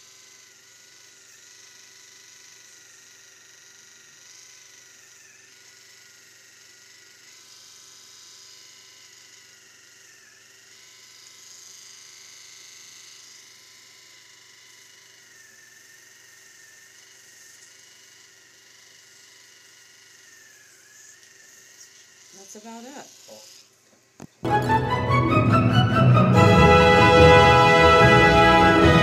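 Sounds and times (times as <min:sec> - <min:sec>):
electric toothbrush buzzing: 0:00.0 - 0:24.4, 0:26.2 - 0:29.0.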